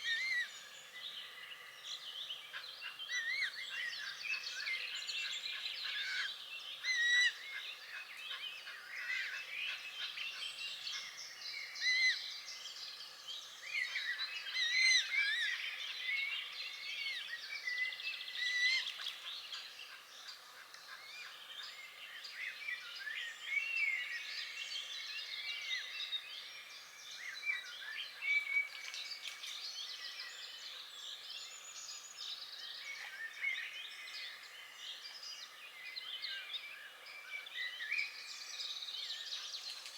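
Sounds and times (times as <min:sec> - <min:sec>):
chorus of songbirds: 0:00.0 - 0:39.9.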